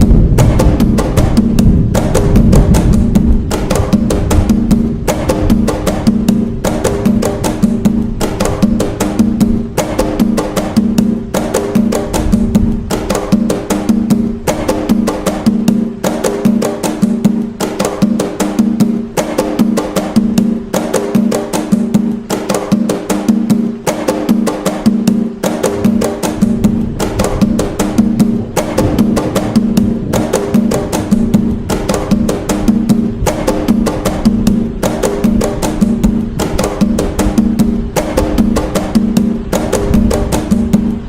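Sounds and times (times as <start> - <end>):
deep drum tone: 0.0 - 41.0
hand drums playing a rhythm: 0.0 - 41.0.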